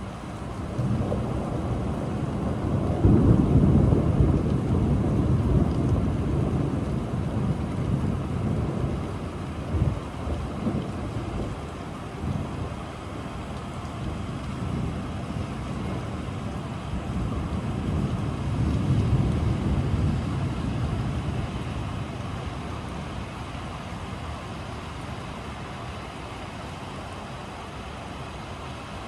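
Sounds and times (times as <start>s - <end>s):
steady rain: 0.0s - 29.0s
distant rolling thunder: 0.2s - 23.9s.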